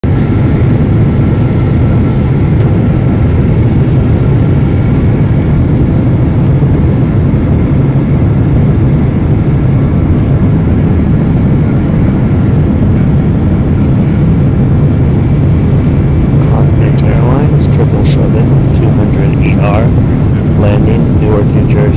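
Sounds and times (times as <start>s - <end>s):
airliner cabin engine rumble: 0.0s - 21.9s.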